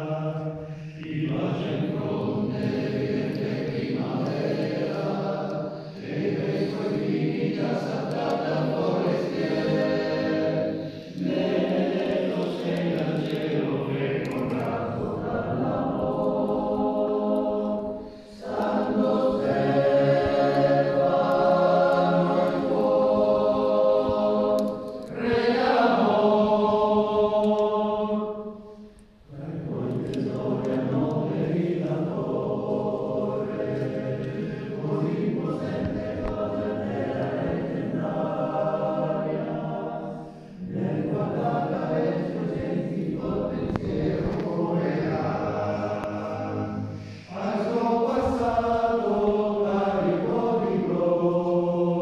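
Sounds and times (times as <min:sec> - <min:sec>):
male choir singing unaccompanied: 0:00.0 - 0:52.0.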